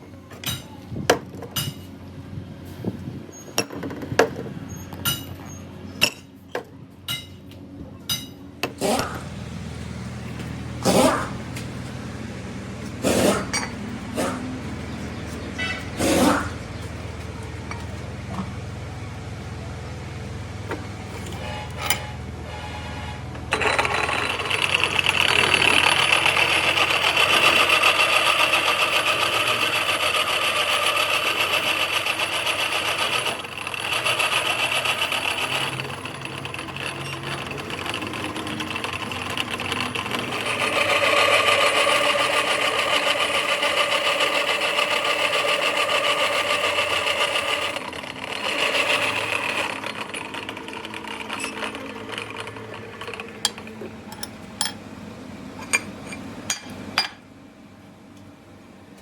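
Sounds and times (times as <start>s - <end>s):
workshop machine whirring: 0.0s - 59.0s.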